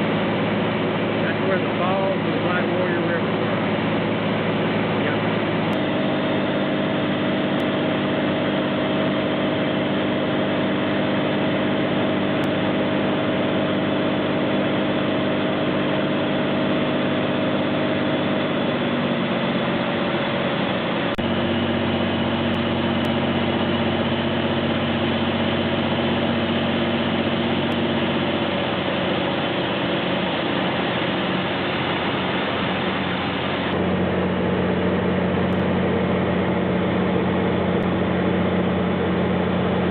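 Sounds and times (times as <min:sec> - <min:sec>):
airplane engine and propeller: 0:00.0 - 0:39.9.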